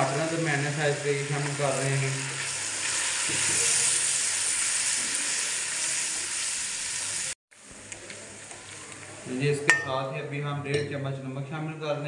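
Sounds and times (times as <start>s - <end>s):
tomatoes sizzling in hot oil: 0.0s - 9.7s.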